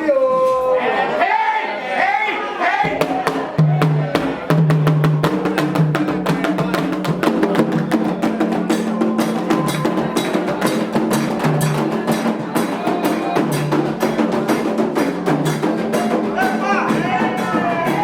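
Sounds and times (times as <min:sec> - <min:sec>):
hand drums playing fast rhythm: 0:02.8 - 0:18.0.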